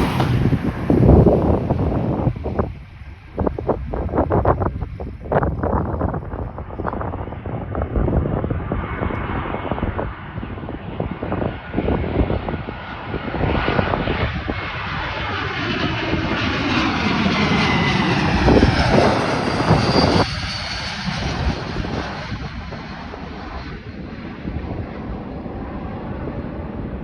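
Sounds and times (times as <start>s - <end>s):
jet airliner engine roar: 0.0s - 27.0s
wind buffeting microphone: 0.0s - 27.0s.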